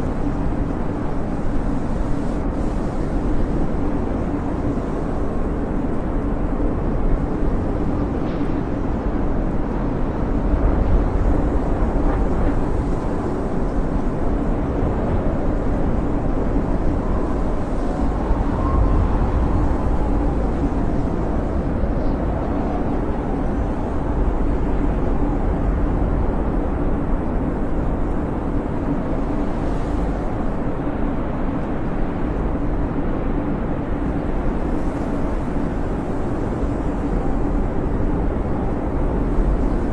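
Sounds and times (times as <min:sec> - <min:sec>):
wind blowing with whistling: 0:00.0 - 0:39.9.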